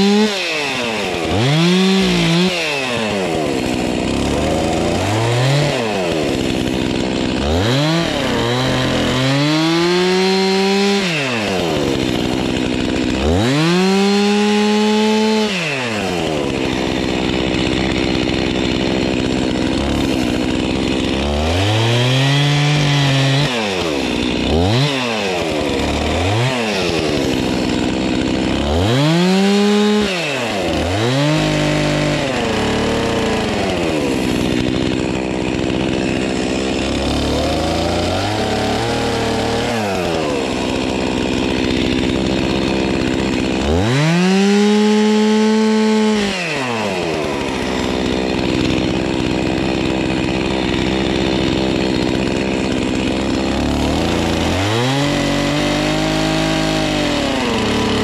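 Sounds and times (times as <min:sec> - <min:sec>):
chainsaw revving: 0:00.0 - 0:58.0.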